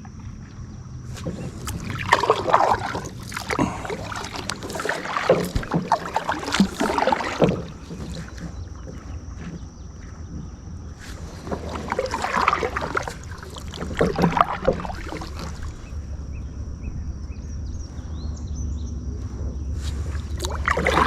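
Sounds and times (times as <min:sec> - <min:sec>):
low steady rumble: 0:00.0 - 0:21.0
paddle strokes splashing water: 0:00.0 - 0:21.0.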